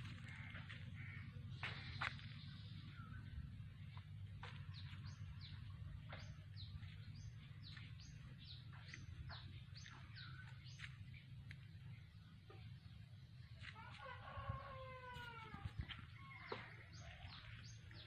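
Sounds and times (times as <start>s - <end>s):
faint low rumble: 0.0s - 18.0s.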